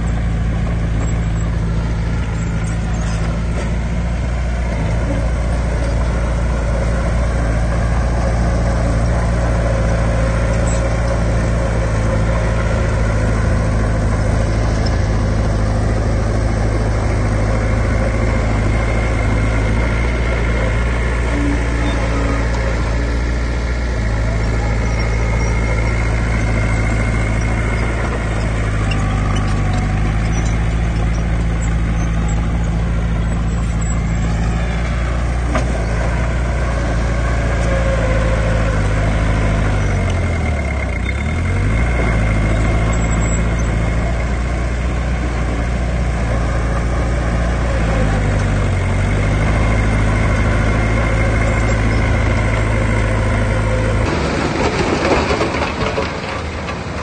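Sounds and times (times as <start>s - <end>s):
heavy machine diesel engine: 0.0s - 57.0s.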